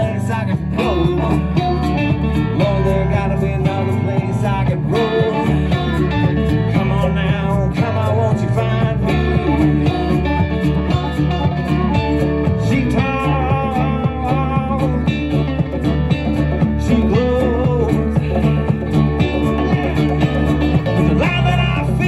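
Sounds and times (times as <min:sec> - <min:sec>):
lead guitar: 0:00.0 - 0:22.0
live band jamming: 0:00.0 - 0:22.0.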